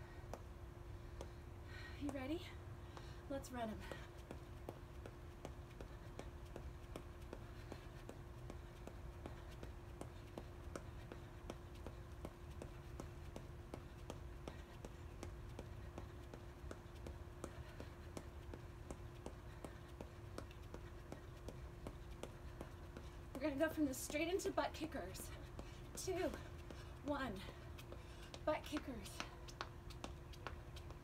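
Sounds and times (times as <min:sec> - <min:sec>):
faint low hum: 0:00.0 - 0:31.0
footsteps on concrete: 0:01.1 - 0:31.0.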